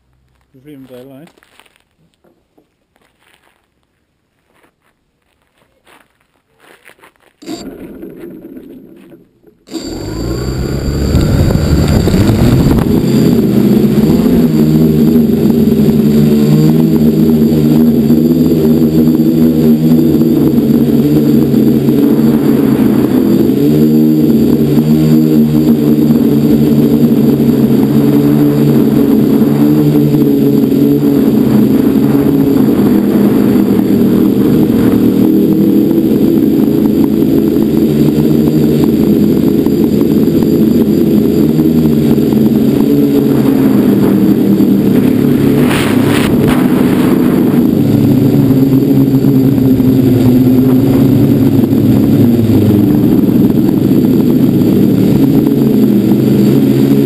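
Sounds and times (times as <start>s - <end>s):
drone propellers buzzing: 7.4s - 8.8s, 9.6s - 57.0s.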